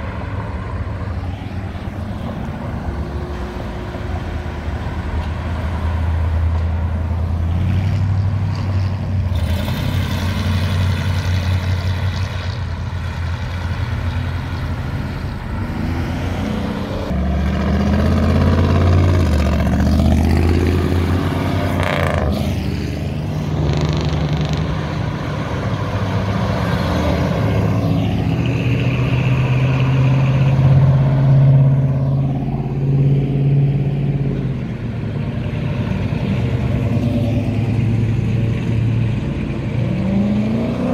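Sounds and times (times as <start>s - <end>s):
cars driving past: 0.0s - 40.9s.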